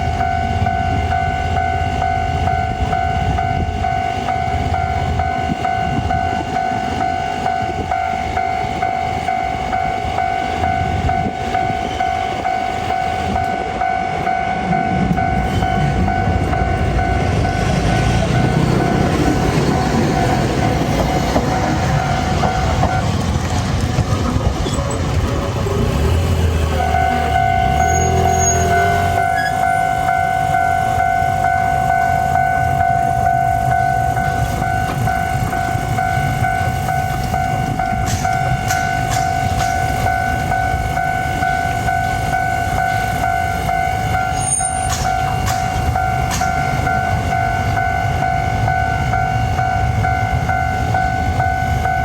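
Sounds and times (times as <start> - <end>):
level crossing warning bell: 0.0 - 52.0
tram rumbling: 0.0 - 52.0
wheels clattering on rails: 0.0 - 52.0.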